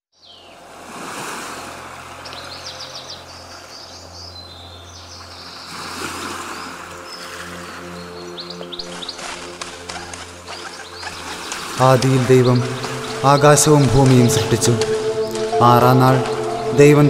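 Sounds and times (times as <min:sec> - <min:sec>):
birds chirping: 0:02.1 - 0:17.0.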